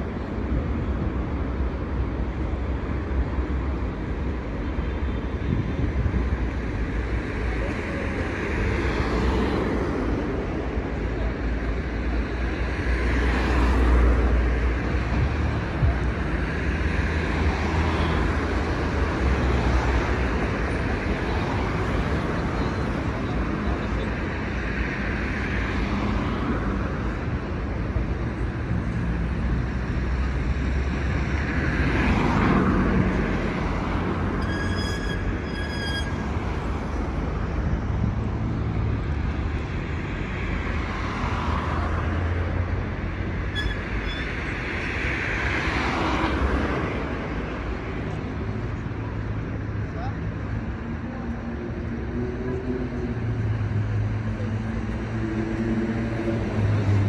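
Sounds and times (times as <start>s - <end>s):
traffic hum: 0.0s - 57.0s
vehicles passing close by: 0.0s - 57.0s.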